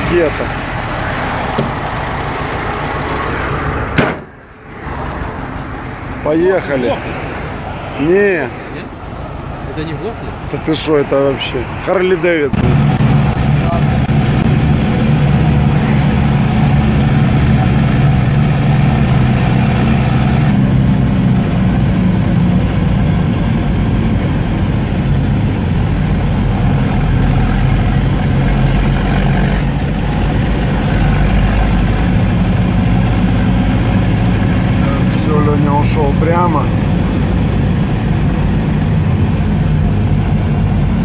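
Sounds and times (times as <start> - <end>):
car engine running: 0.0 - 7.6, 9.0 - 41.0
road noise: 0.0 - 41.0.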